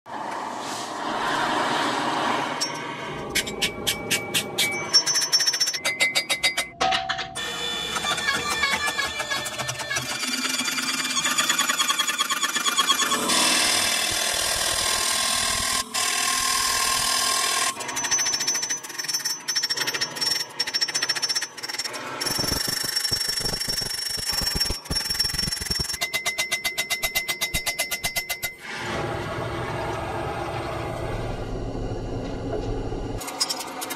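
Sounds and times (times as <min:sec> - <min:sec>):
dense machine noise: 0:00.1 - 0:06.7, 0:07.4 - 0:26.0, 0:28.1 - 0:33.9.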